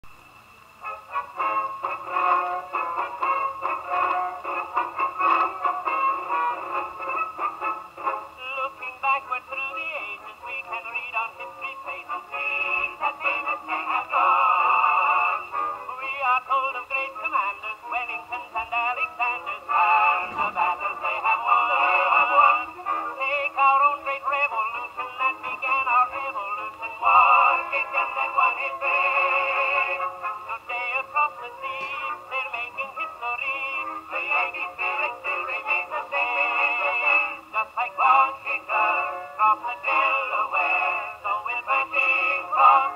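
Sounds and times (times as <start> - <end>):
old recorded music on phonograph: 0.0 - 42.9.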